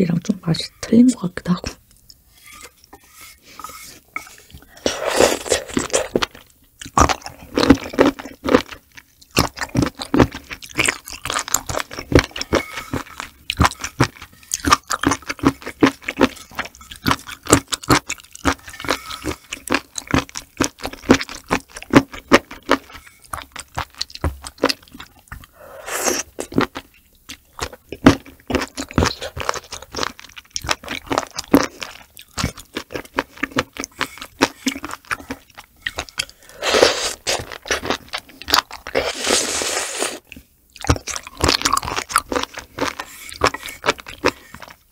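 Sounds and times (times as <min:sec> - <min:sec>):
wet chewing and mouth clicks: 0:01.5 - 0:44.9.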